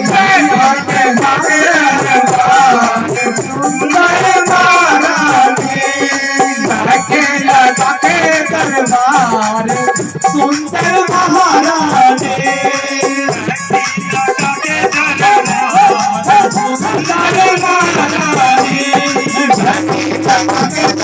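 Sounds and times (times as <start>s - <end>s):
devotional melody: 0.0s - 21.0s
shaken rattle percussion: 0.0s - 21.0s.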